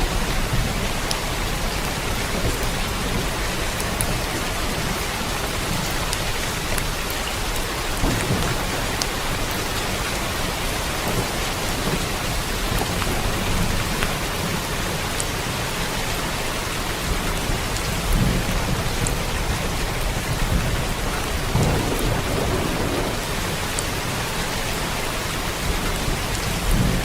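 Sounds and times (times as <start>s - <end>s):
steady rain falling: 0.0s - 27.0s
thunder rumbling: 0.0s - 27.0s.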